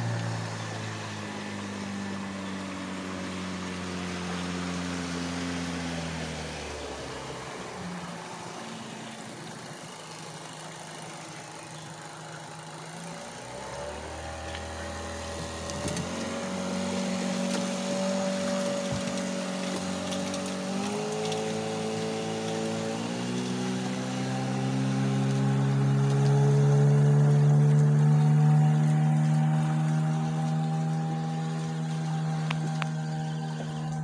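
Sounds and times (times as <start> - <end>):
boat outboard motor running: 0.0 - 34.0.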